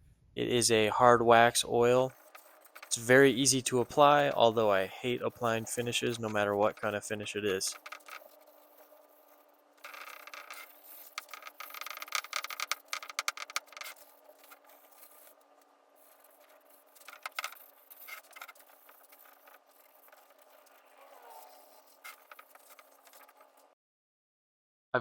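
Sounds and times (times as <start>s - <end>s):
scratchy rubbing on wood: 1.7s - 23.7s.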